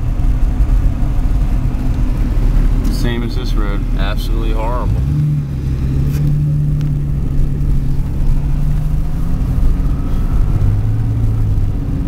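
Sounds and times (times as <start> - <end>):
car engine hum and road rumble: 0.0 - 12.0.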